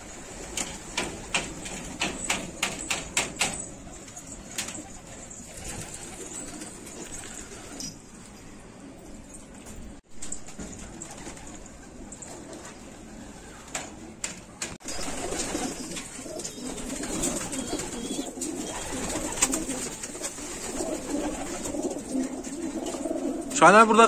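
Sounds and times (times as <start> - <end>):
pigeons cooing: 0.0 - 9.3, 10.8 - 23.6.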